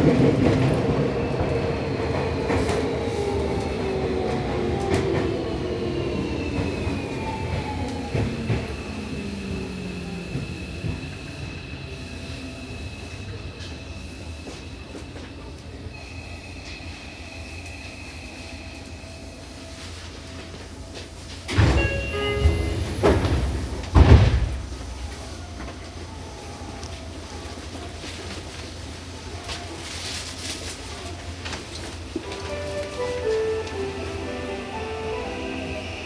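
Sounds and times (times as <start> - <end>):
electric train humming: 0.0 - 29.3, 31.3 - 36.0.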